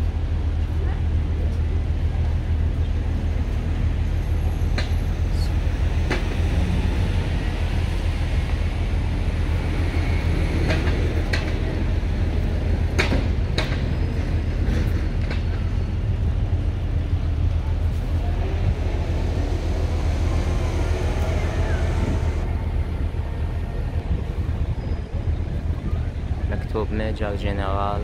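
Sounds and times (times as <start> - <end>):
low rumble of traffic: 0.0 - 28.0.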